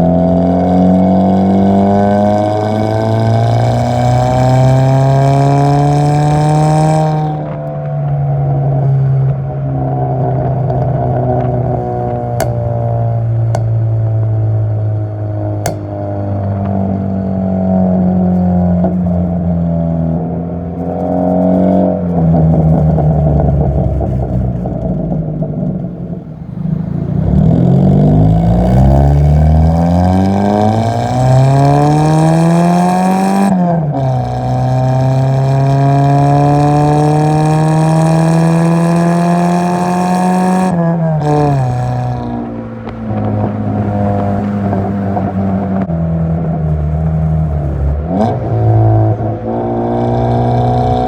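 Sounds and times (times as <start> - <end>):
car engine accelerating hard: 0.0 - 51.0.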